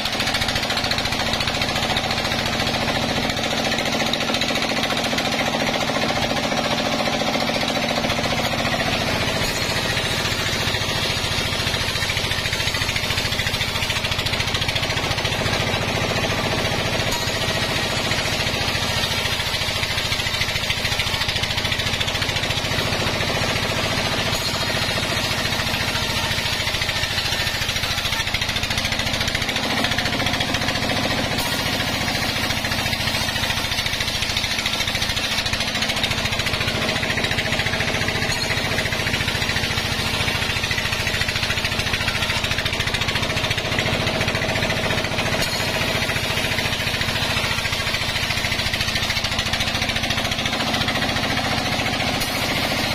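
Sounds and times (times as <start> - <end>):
saw blade rasping through log: 0.0 - 52.9
band sawmill humming: 5.5 - 52.9.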